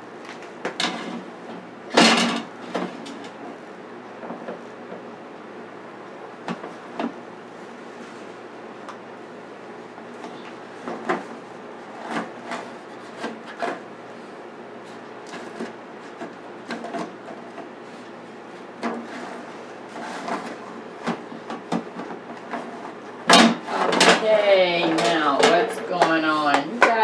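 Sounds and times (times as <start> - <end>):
air fryer oven hum: 0.0 - 27.0.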